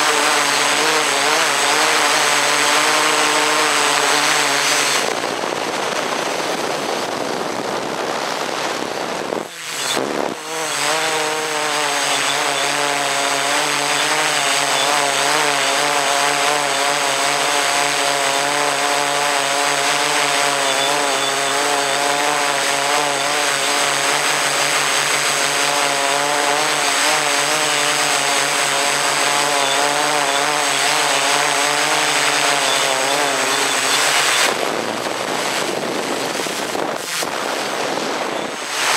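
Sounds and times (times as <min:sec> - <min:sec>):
model aircraft motor and propeller: 0:00.0 - 0:38.9.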